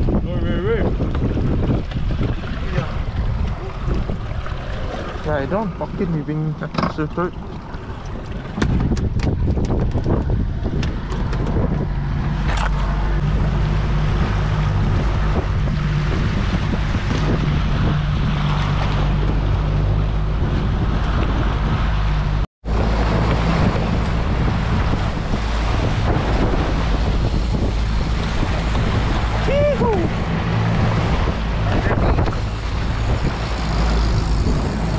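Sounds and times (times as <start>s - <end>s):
boat wake rushing: 0.0s - 34.9s
outboard motor running: 0.0s - 34.9s
wind on microphone: 0.0s - 34.9s.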